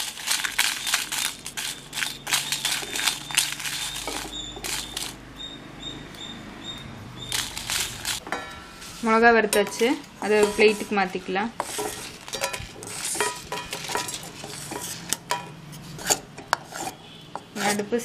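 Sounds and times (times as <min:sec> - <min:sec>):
spatula scraping chillies in pan: 0:00.0 - 0:05.2, 0:07.3 - 0:08.2, 0:08.8 - 0:18.0.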